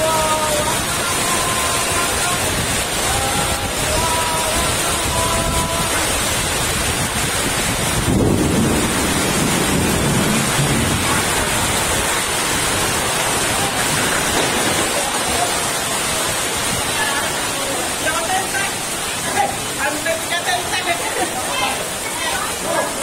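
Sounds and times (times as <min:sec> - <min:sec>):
strong gusting wind: 0:00.0 - 0:19.8
torrential rain: 0:00.0 - 0:23.0.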